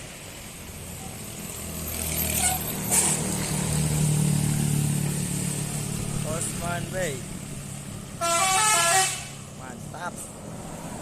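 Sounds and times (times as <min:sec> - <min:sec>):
passing vehicle engine: 0:00.0 - 0:11.0.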